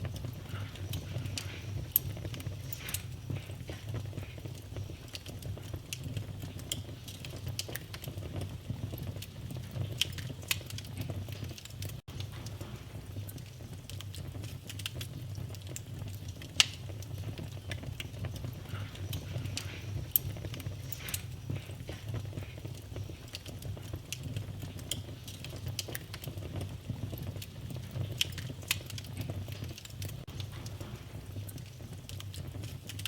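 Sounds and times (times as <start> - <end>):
low steady rumble of fire: 0.0 - 33.0
wood fire crackling: 0.0 - 33.0.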